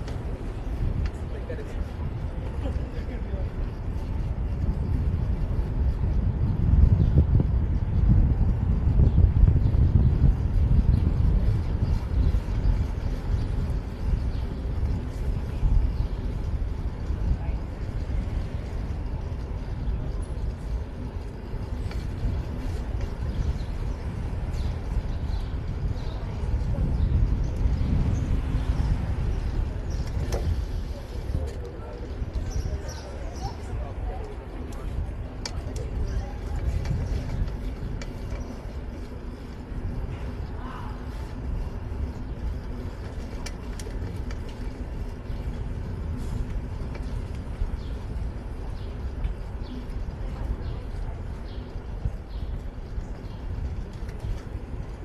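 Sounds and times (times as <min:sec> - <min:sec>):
street traffic: 0:00.0 - 0:55.0
wind buffeting microphone: 0:00.0 - 0:55.0.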